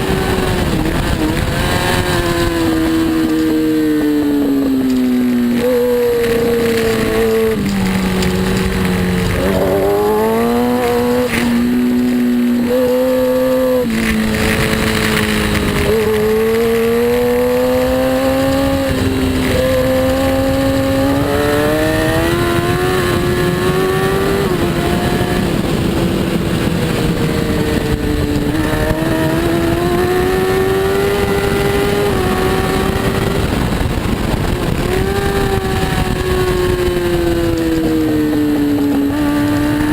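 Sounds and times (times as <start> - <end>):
superbike engine revving: 0.0 - 39.9
wind noise rushing: 0.0 - 39.9.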